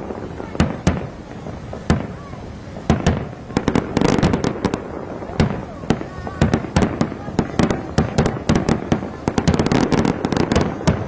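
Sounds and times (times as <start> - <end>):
crackling fireworks: 0.0 - 11.0
fireworks bursting with bangs: 0.0 - 11.0
rumbling echo: 0.0 - 11.0.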